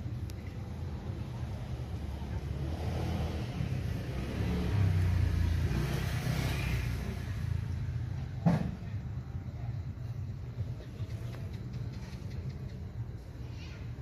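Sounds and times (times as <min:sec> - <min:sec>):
passing motor vehicle rumble: 0:00.0 - 0:14.0.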